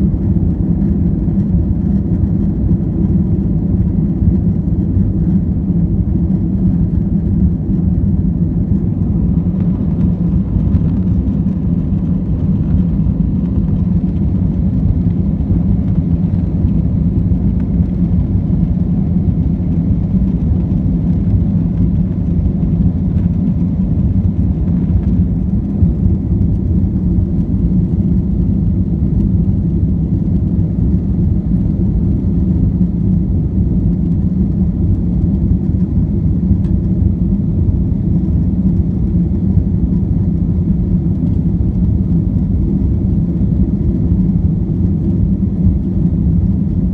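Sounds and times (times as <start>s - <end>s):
airliner engine rumble: 0.0s - 46.9s.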